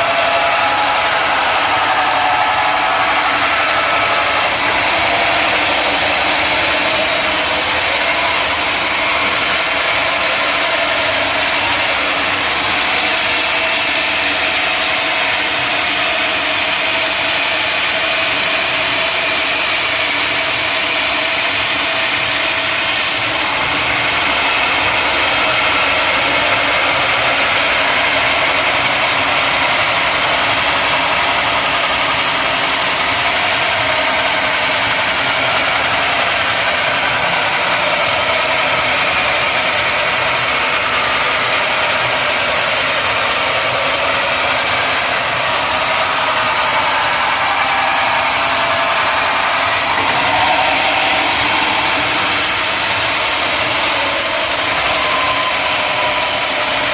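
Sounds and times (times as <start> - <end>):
sawmill machinery running: 0.0 - 56.9.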